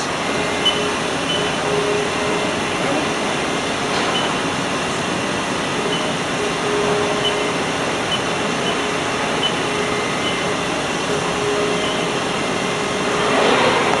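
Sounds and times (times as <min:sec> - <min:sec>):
faint machine whine: 0:00.0 - 0:14.0
lathe mechanical hum: 0:00.0 - 0:14.0.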